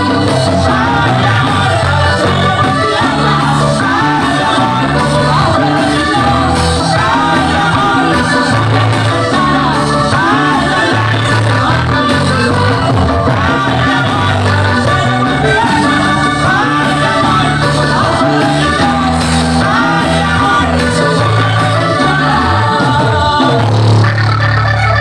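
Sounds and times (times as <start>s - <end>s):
button accordion: 0.0s - 25.0s
guitars: 0.0s - 25.0s.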